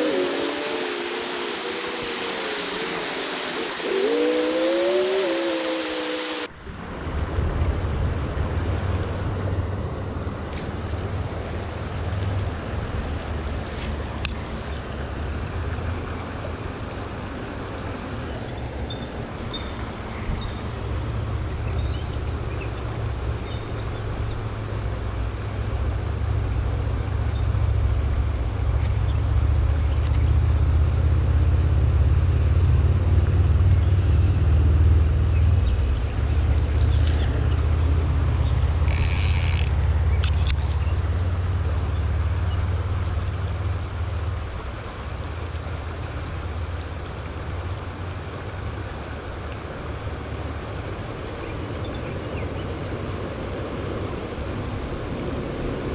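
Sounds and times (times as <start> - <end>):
creek water flowing: 0.0 - 55.9.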